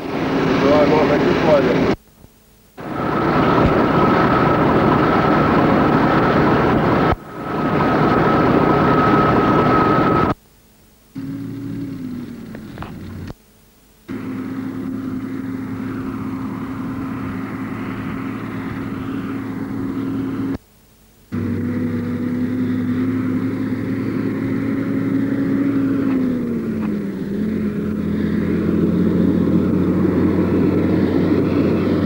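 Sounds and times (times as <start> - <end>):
diesel truck engine drone: 0.0 - 2.0, 2.8 - 10.4, 11.2 - 13.4, 14.1 - 20.6, 21.3 - 32.0
rushing truck and road noise: 0.0 - 2.0, 2.8 - 10.4, 11.2 - 13.4, 14.1 - 20.6, 21.3 - 32.0
steady high whine: 0.0 - 32.0.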